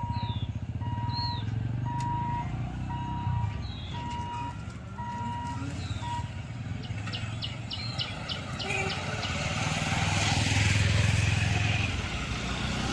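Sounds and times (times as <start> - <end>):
vehicle engine approaching: 0.0 - 12.9.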